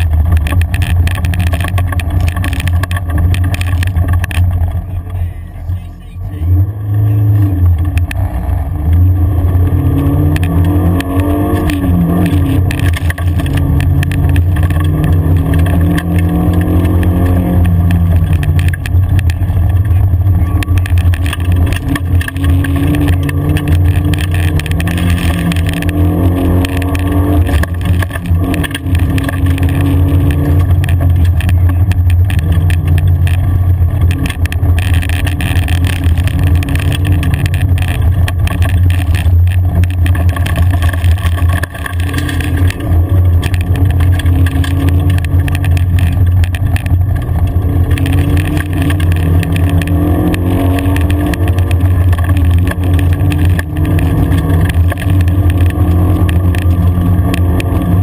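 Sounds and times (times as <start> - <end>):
knocks and rattles: 0.0 - 4.8, 9.9 - 58.0
car engine revving: 0.0 - 58.0.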